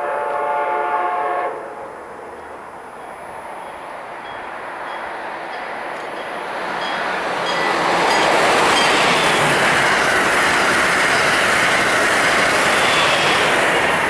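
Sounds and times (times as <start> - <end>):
passenger train passing at speed: 0.0 - 14.0.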